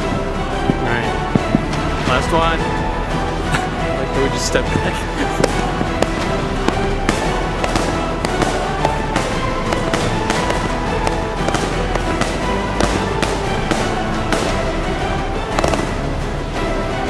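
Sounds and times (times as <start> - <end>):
background music: 0.0 - 17.0
firework bangs and crackles: 0.0 - 17.0.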